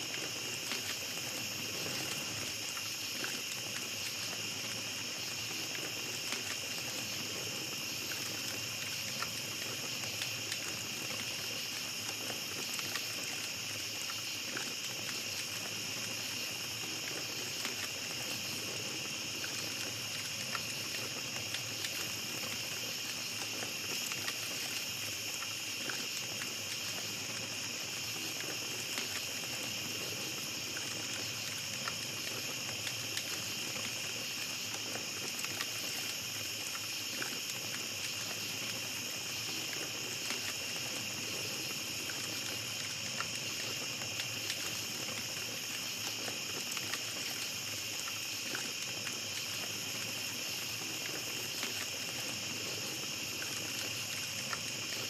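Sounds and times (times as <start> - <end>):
campfire crackling: 0.0 - 55.0
night insects chirping: 0.0 - 55.0.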